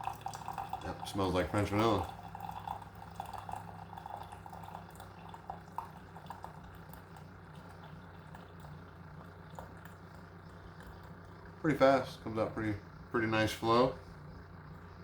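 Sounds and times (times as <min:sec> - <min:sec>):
coffee streaming into a cup: 0:00.0 - 0:12.3
water pump humming: 0:00.0 - 0:15.0.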